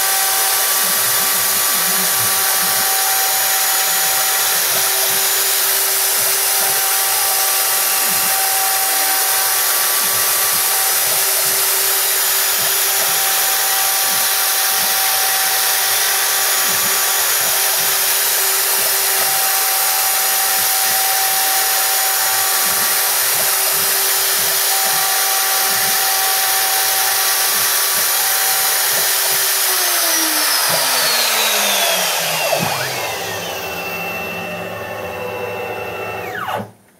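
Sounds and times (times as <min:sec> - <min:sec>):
router high whine: 0:00.0 - 0:36.8.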